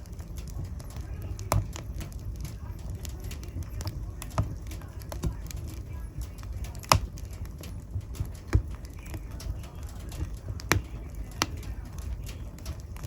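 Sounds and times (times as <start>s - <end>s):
loud fire pops: 0.0s - 13.0s
wood fire burning: 0.0s - 13.0s.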